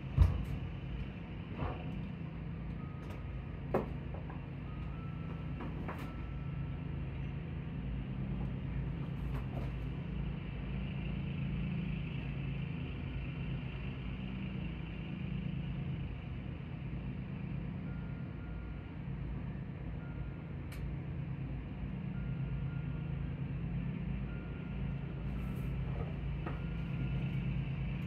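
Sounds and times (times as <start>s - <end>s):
muffled engine drone: 0.0s - 28.0s.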